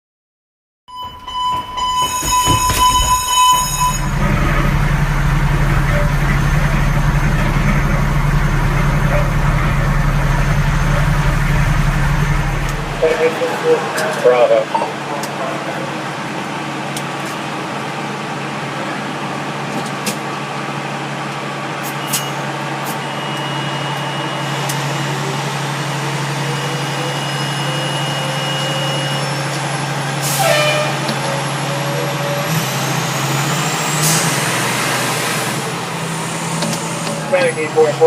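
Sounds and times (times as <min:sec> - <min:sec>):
road noise: 0:00.9 - 0:38.0
truck engine hum: 0:00.9 - 0:38.0.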